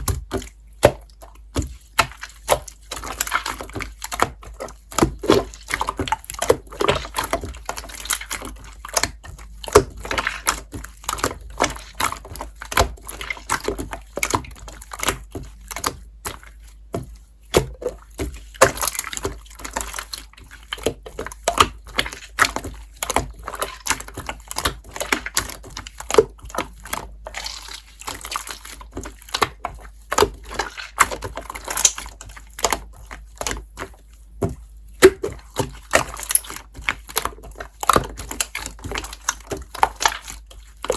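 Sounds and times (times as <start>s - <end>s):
slime squished by hand: 0.0s - 40.9s.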